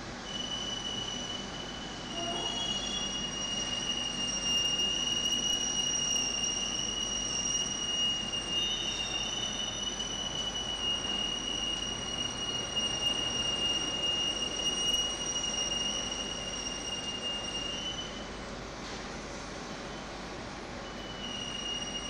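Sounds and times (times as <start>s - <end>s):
high-pitched fan whine: 0.0s - 22.0s.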